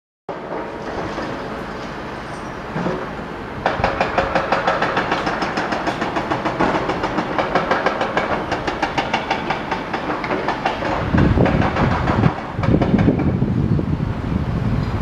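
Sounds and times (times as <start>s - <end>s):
rails ringing: 0.3s - 13.4s
train clicking on rails: 0.3s - 13.6s.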